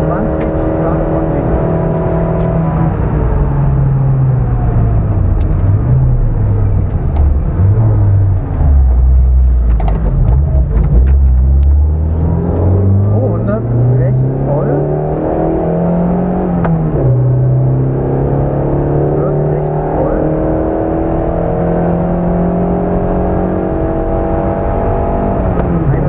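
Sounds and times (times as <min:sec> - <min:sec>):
car engine from inside cabin: 0:00.0 - 0:26.0.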